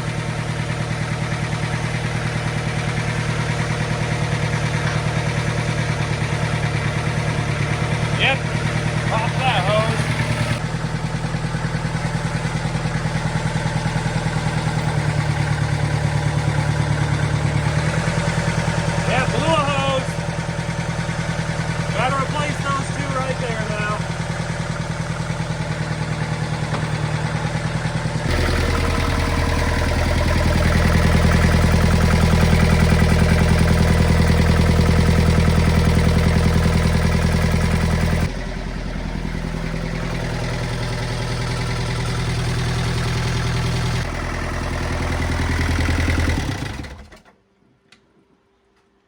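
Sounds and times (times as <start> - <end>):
diesel engine running: 0.0 - 47.3.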